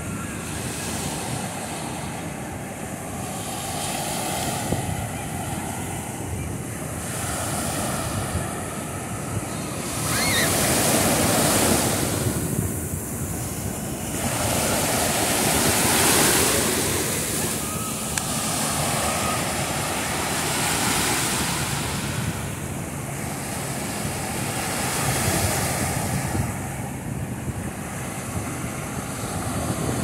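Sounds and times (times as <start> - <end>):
surf breaking and washing: 0.0 - 30.0
wind buffeting microphone: 0.0 - 30.0.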